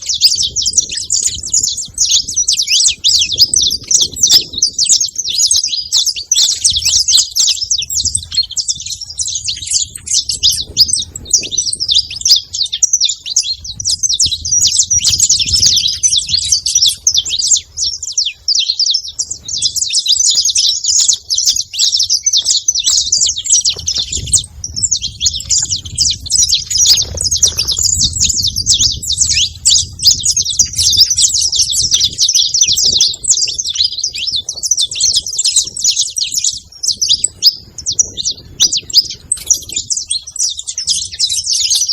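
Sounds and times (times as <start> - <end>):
finches chirping and singing: 0.0 - 41.9.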